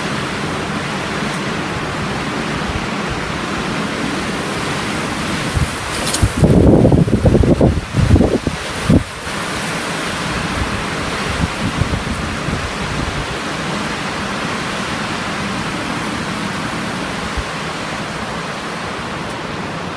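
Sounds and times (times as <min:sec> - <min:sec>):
blizzard wind blowing: 0:00.0 - 0:19.9
wind gusts buffeting microphone: 0:00.1 - 0:19.9.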